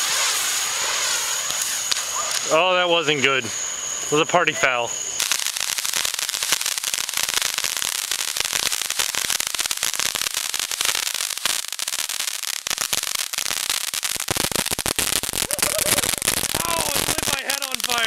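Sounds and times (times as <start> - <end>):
fireworks hissing and crackling: 0.0 - 18.0.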